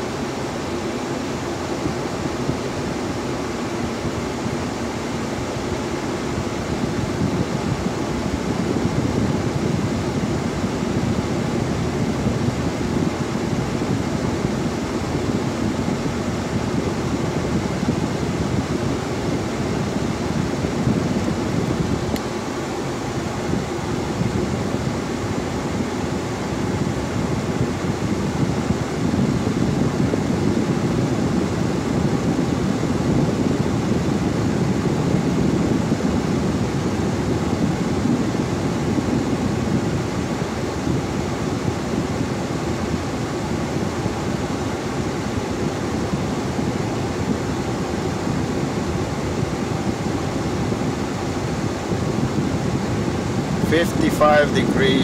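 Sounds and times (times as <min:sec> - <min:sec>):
air rushing from a vent: 0:00.0 - 0:55.0.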